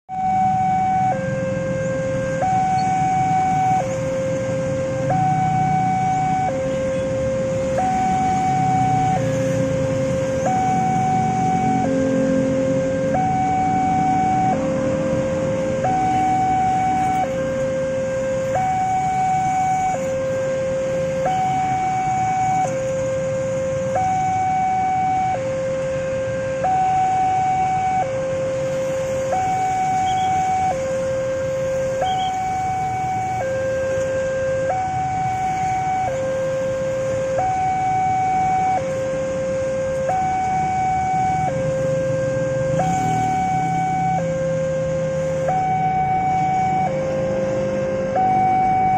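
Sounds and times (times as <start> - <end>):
motorcycle engines rumbling: 0.1 - 48.9
two-tone warning alarm: 0.1 - 48.9.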